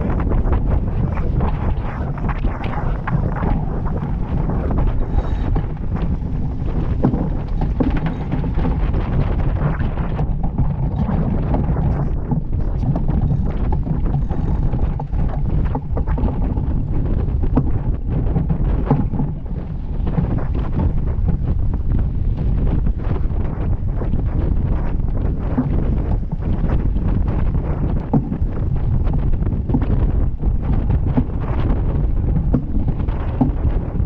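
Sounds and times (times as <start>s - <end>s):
water rushing along hull: 0.0s - 34.0s
wind buffeting microphone: 0.0s - 34.0s.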